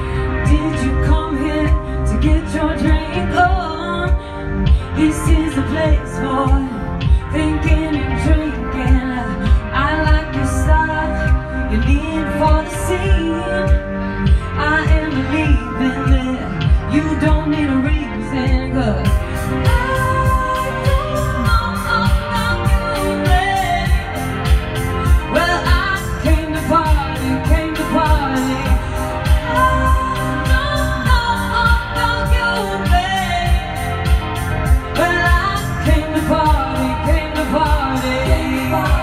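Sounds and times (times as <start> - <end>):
electronic backing track: 0.0 - 39.0
woman singing into a microphone: 0.0 - 39.0.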